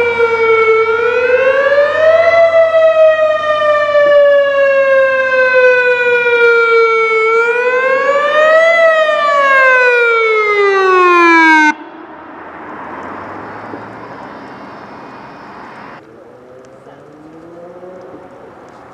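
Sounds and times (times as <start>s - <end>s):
warning siren wailing: 0.0s - 18.9s.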